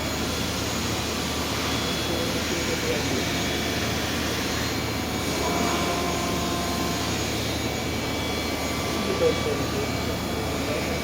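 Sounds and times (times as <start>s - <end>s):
faint high whines: 0.0s - 11.0s
grinder machine hiss and hum: 0.0s - 11.0s.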